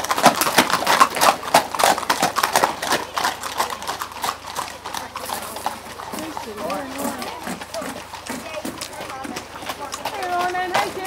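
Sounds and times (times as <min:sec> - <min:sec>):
horse hooves clip-clopping on tarmac: 0:00.0 - 0:11.0.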